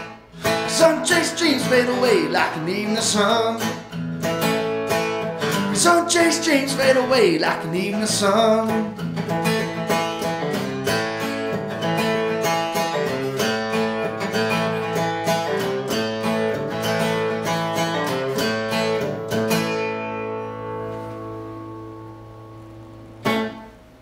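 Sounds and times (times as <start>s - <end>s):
acoustic guitar picking and strumming: 0.0s - 24.0s.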